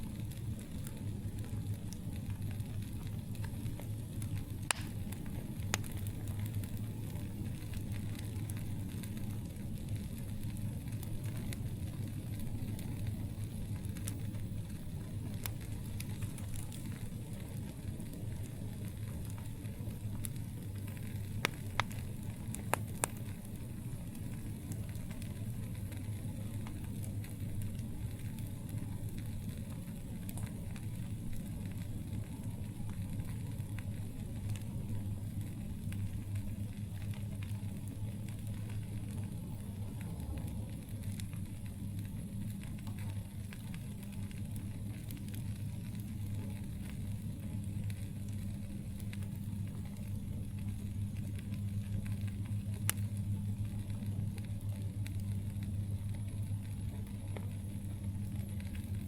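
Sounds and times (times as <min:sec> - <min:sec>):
campfire crackling and popping: 0:00.0 - 0:59.0
steady low hum: 0:00.0 - 0:59.0.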